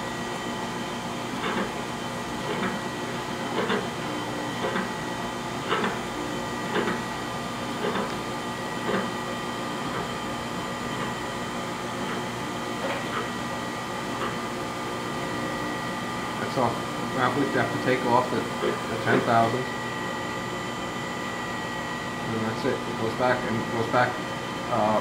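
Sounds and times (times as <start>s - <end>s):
surface grinder humming and whining: 0.0s - 25.0s.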